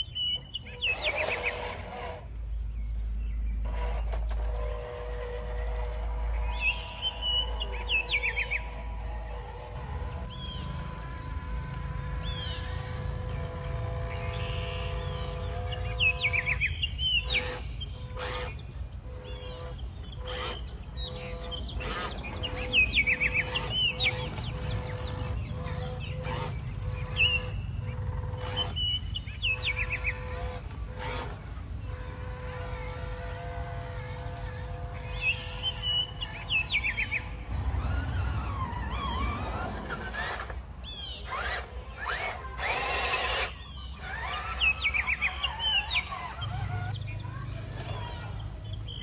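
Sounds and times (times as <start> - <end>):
birds chirping: 0.0 - 49.0
steady hum: 0.0 - 49.0.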